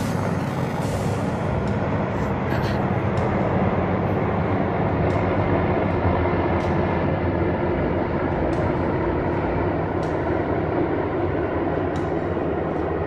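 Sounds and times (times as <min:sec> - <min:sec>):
helicopters rotor rumble: 0:00.0 - 0:13.0.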